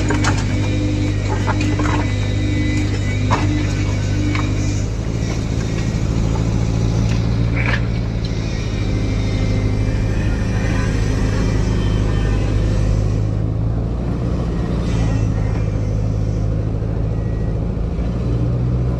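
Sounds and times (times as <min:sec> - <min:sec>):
excavator engine humming: 0:00.0 - 0:18.9.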